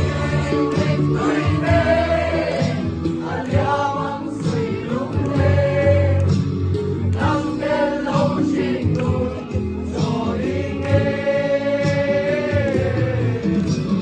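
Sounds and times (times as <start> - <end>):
group of voices singing: 0.0 - 14.0
instrumental backing music: 0.0 - 14.0.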